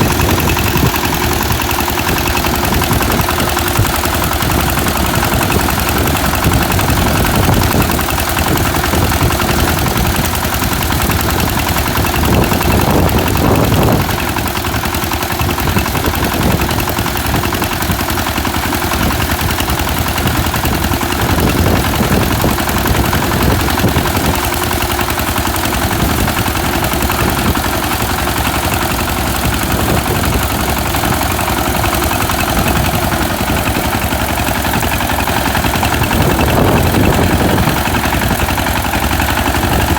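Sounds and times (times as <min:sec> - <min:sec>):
small engine running loudly: 0:00.0 - 0:39.9.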